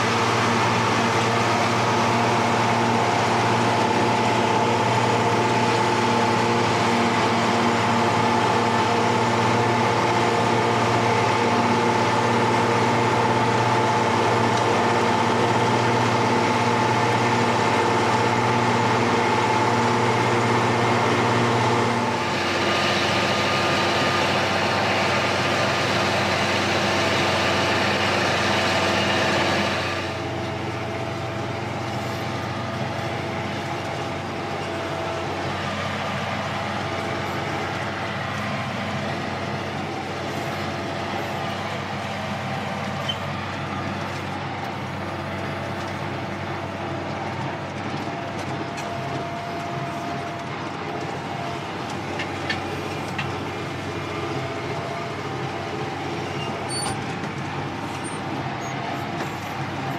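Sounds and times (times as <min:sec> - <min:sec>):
mower whine: 0:00.0 - 0:59.9
tractor engine running: 0:00.0 - 0:59.9.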